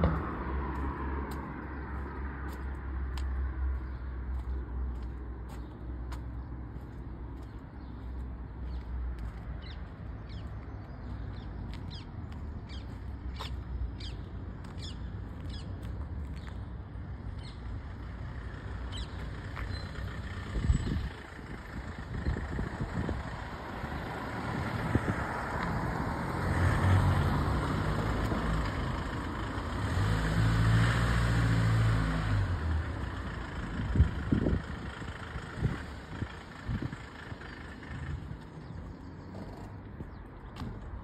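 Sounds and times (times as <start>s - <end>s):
motor vehicles passing: 0.0s - 41.0s.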